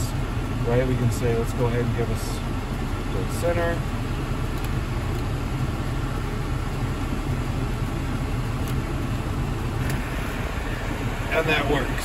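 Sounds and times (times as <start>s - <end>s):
blower fan rushing air: 0.0s - 12.0s
car engine idling: 0.0s - 12.0s.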